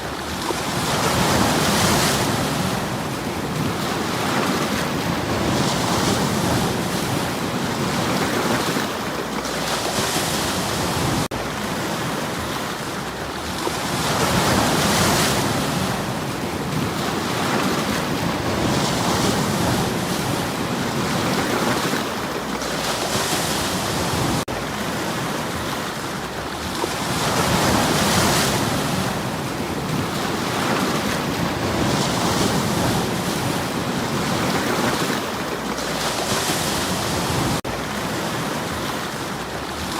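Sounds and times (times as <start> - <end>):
waves washing over stones: 0.0 - 39.9.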